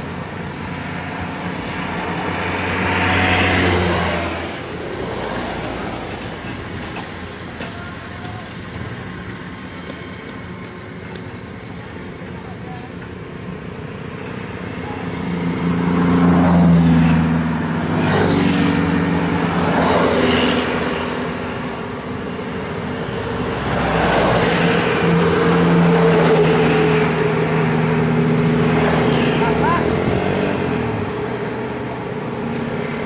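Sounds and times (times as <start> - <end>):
combine harvester engine and threshing: 0.0 - 33.0.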